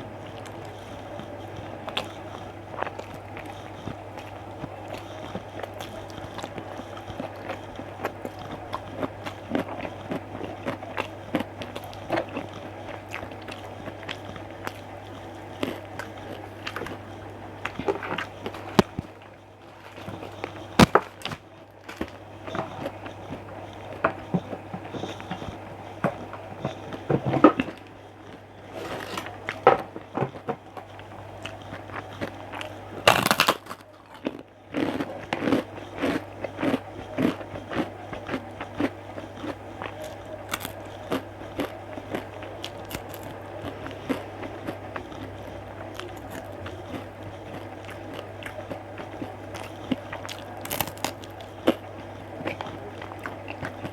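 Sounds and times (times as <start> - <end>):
chewing and crunching food: 0.0 - 53.9
steady low hum: 0.0 - 53.9.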